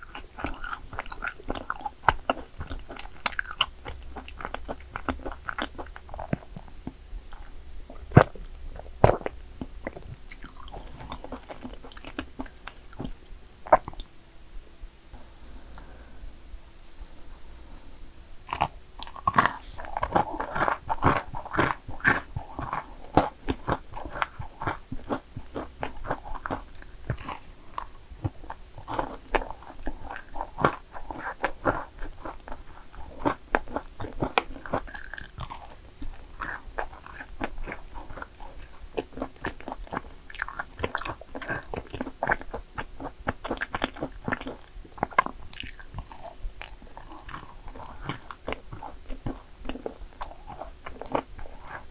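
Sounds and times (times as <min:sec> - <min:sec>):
cookies crunching: 0:00.0 - 0:14.1, 0:18.4 - 0:51.9
person chewing: 0:00.0 - 0:14.1, 0:18.4 - 0:51.9.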